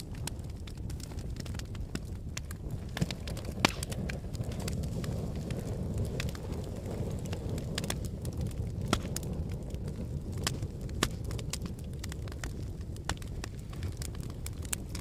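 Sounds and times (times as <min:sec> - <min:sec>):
fire crackling: 0:00.0 - 0:15.0
sharp pops from fire: 0:00.0 - 0:15.0.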